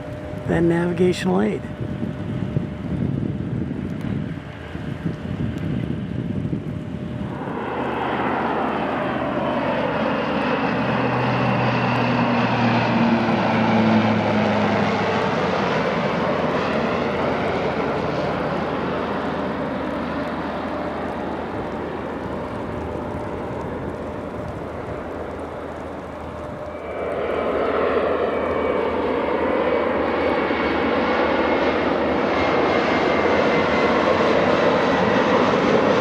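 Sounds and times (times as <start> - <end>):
propeller plane passing overhead: 0.0 - 36.0.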